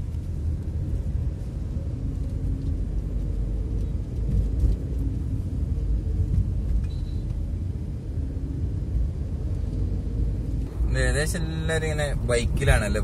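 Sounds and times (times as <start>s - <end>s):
car engine rumble: 0.0s - 13.0s
tyre noise on road: 0.0s - 13.0s.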